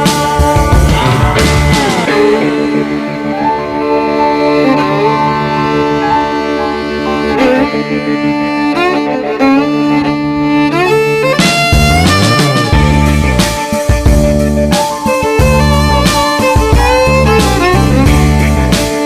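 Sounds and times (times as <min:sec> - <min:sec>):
sliding melodic background music: 0:00.0 - 0:19.0.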